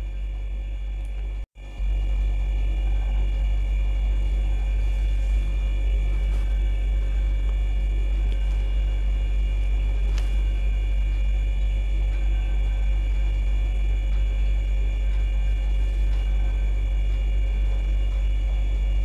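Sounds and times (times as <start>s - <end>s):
deep low drone: 0.0s - 19.0s
electrical hum: 0.0s - 19.0s.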